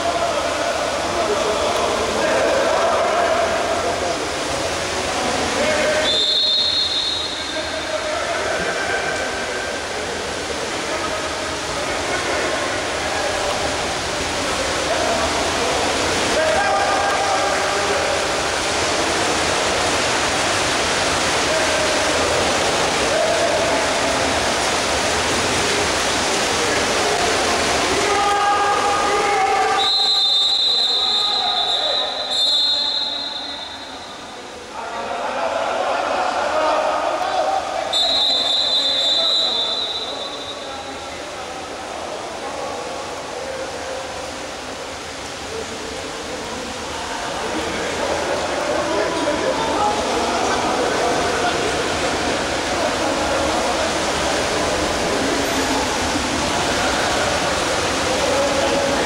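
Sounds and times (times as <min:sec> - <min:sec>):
echoing swimming pool hall noise: 0:00.0 - 0:59.0
faint voices: 0:00.0 - 0:59.0
water splashing and churning: 0:00.0 - 0:59.0.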